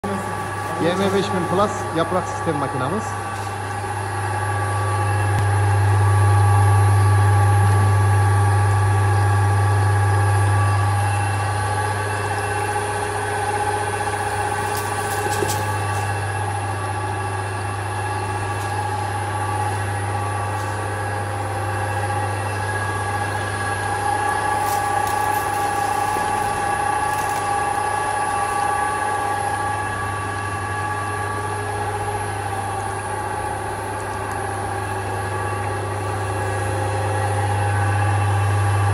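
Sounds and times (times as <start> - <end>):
oil press humming and whining: 0.0 - 38.9.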